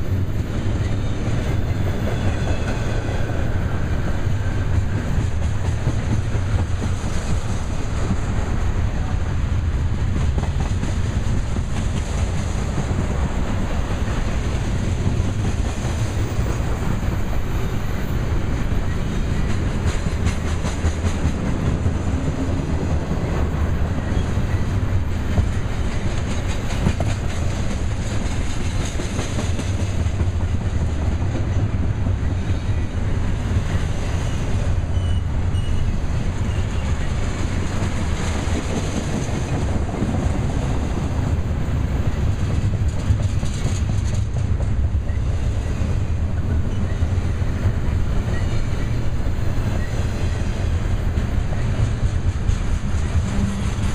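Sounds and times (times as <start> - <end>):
clickety-clack of train wheels: 0.0 - 53.9
freight train rumbling past: 0.0 - 53.9.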